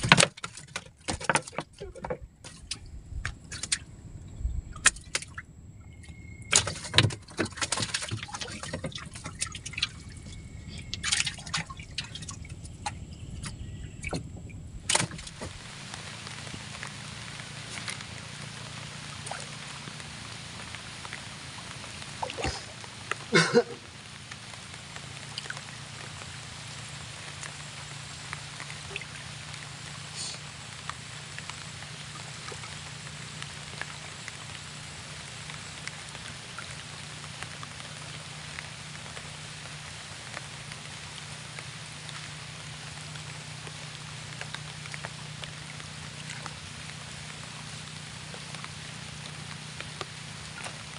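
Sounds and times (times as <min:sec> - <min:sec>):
steady low hum: 0:00.0 - 0:50.9
water dripping against hull: 0:00.0 - 0:50.9.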